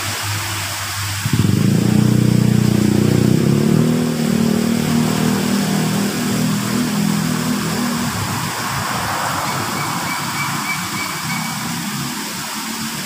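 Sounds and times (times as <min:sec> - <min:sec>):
engine droning: 0:00.0 - 0:13.0
falling water rushing: 0:00.0 - 0:13.0.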